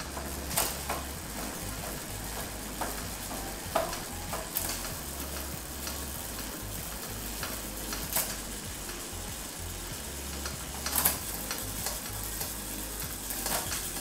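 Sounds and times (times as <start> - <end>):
bicycle chain rattling hiss: 0.0 - 14.0
freewheel clicks: 0.0 - 14.0.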